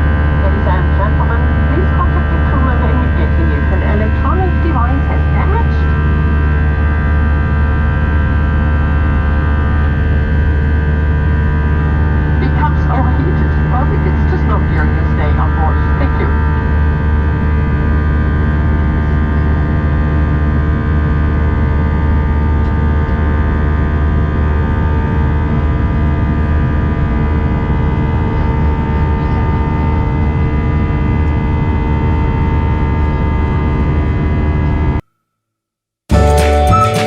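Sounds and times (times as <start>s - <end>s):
airliner cabin drone: 0.0s - 35.0s.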